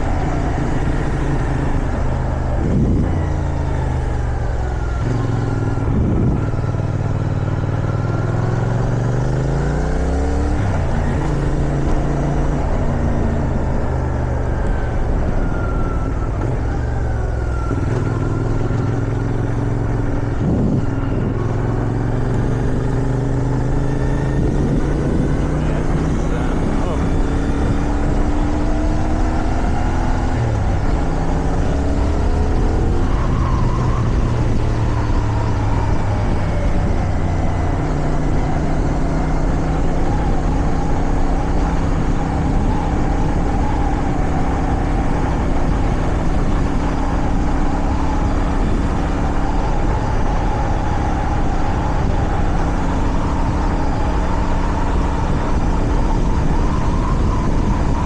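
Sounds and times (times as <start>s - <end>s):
wind on microphone: 0.0s - 6.9s, 10.6s - 37.7s, 38.4s - 58.0s
motorcycle engine: 0.0s - 58.0s.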